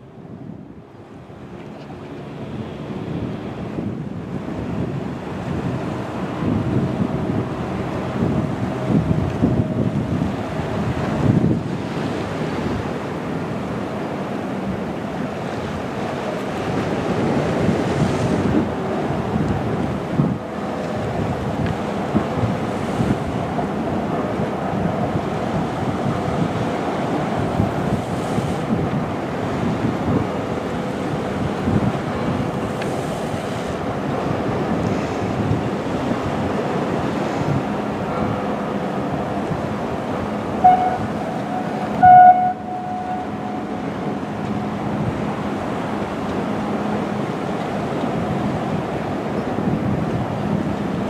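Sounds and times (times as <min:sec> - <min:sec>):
passenger train running: 0:00.0 - 0:51.0
sea waves: 0:00.0 - 0:51.0
surf on rocky shore: 0:00.0 - 0:51.0
wind buffeting microphone: 0:00.0 - 0:51.0.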